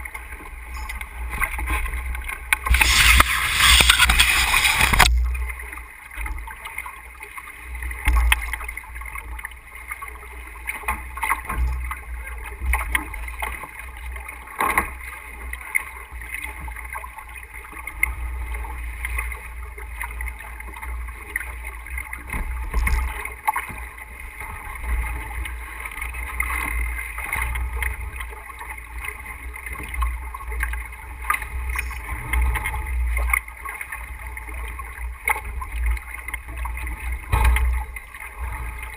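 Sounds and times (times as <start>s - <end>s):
water rushing along hull: 0.0s - 38.9s.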